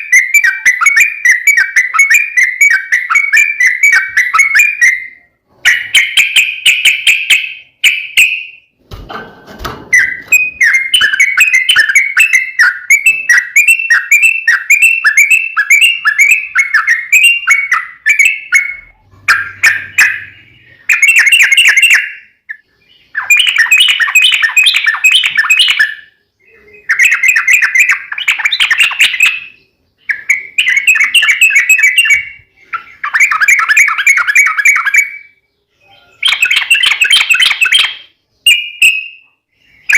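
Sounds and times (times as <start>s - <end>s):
bird singing bubbly song: 0.0s - 8.7s, 9.9s - 39.9s.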